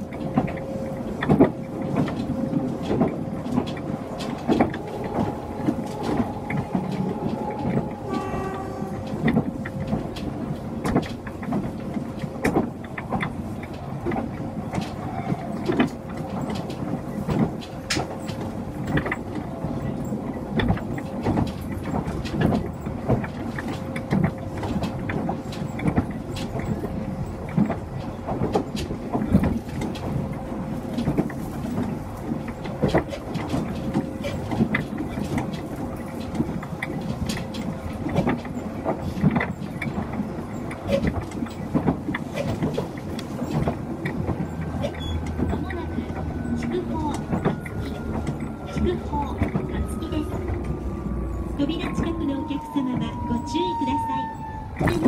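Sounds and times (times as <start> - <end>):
train rolling noise: 0.0 - 55.0
wheels clicking over rail joints: 0.0 - 55.0.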